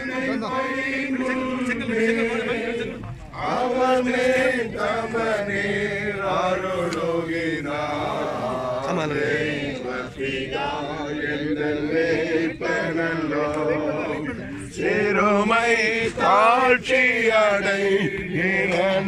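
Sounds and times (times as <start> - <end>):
group singing a hymn: 0.0 - 19.0.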